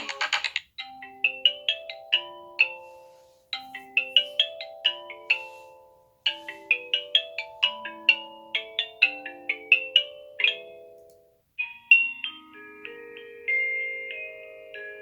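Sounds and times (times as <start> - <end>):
busier ringtone: 0.0 - 15.0
marimba-like ringtone melody: 0.0 - 15.0.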